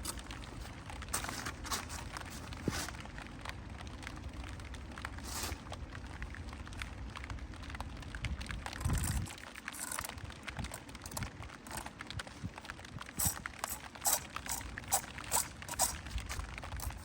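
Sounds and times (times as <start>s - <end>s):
rain pattering on hard surface: 0.0s - 17.0s.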